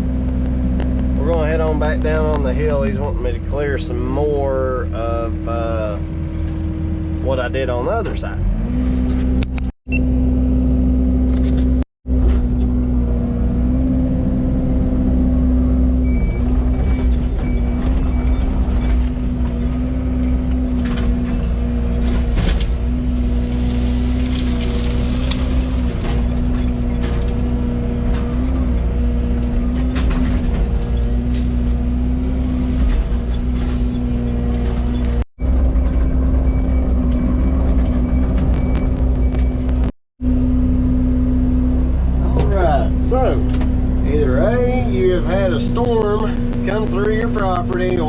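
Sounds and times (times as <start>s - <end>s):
diesel engine running with whine: 0.0s - 48.0s.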